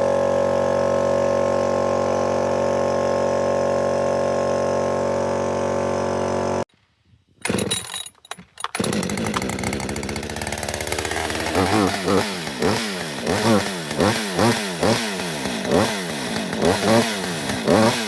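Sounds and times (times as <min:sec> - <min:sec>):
small engine running: 0:00.0 - 0:06.7, 0:07.4 - 0:18.0.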